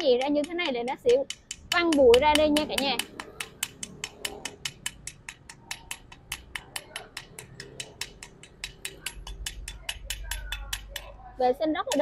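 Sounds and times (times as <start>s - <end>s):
rapid hammer taps on steel: 0.0s - 11.1s.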